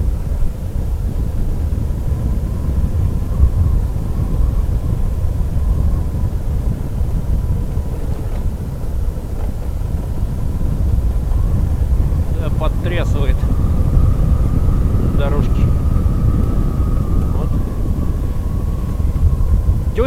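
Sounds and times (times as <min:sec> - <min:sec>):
faint steady whine: 0:00.0 - 0:20.0
motorcycle engine running: 0:00.0 - 0:20.0
wind buffeting microphone: 0:00.0 - 0:20.0.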